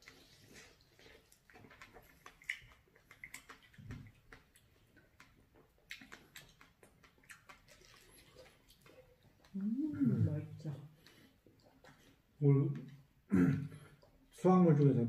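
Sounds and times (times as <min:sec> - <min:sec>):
chewing and lip-smacking: 0:00.0 - 0:10.0, 0:10.6 - 0:14.4.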